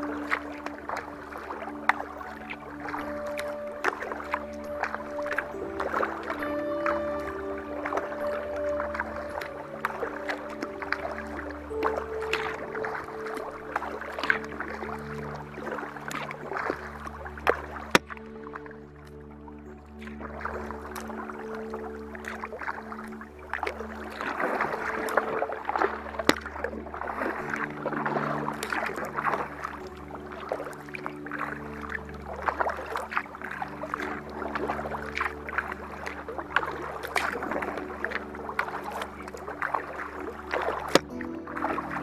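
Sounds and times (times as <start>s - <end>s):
sharp splashes: 0.0s - 19.2s, 19.9s - 42.0s
low sustained music chords: 0.0s - 42.0s
paddle strokes: 0.0s - 42.0s
water rushing along kayak hull: 0.0s - 42.0s.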